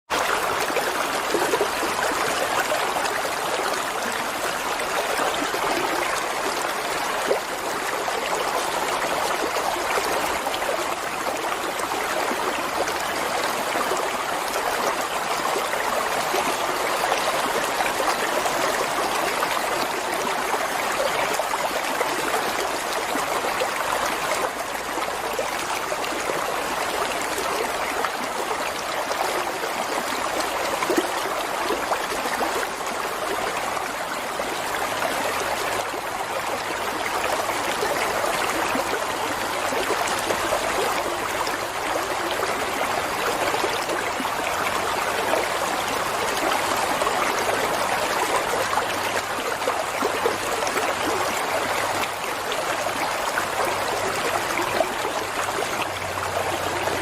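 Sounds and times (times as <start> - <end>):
stream water rushing: 0.1 - 57.0.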